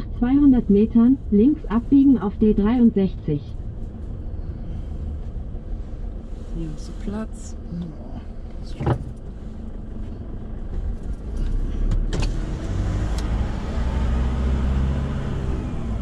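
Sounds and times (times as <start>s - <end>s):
pickup engine and road rumble: 0.0s - 16.0s.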